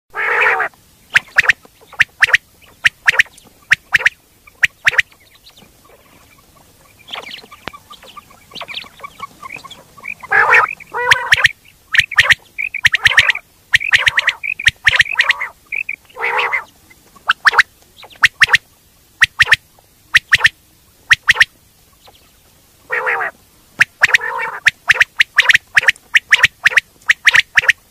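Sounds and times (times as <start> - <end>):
quail calling: 0.1 - 27.9.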